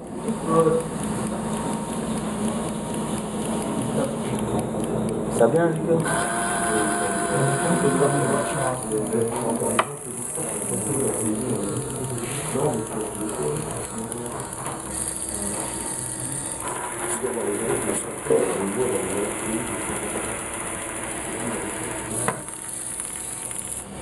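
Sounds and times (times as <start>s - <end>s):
small electric motors whirring: 0.2s - 5.1s, 5.9s - 24.0s.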